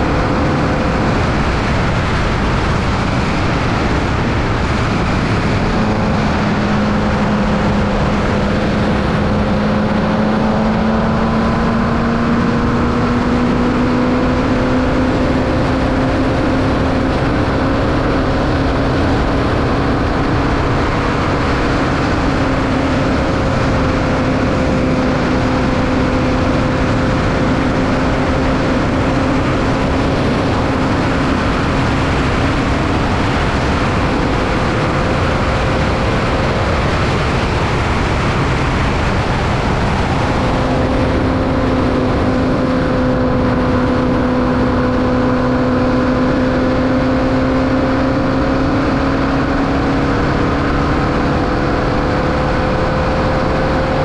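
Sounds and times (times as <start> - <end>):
constant rushing noise: 0.0 - 54.0
race car engine running hard: 0.0 - 54.0.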